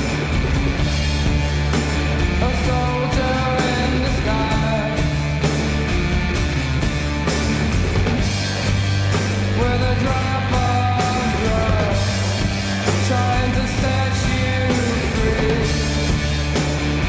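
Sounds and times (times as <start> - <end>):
rock song with singing: 0.0 - 17.0.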